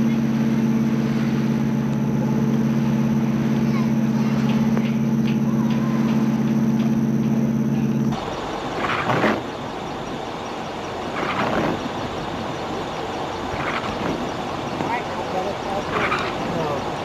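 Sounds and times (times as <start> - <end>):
boat engine drone: 0.0 - 17.0
traffic noise: 0.0 - 17.0
vehicles passing: 0.0 - 17.0.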